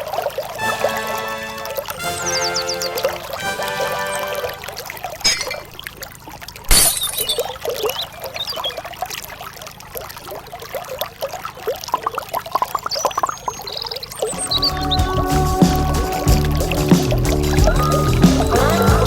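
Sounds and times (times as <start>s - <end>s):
water pouring and trickling: 0.0s - 19.0s.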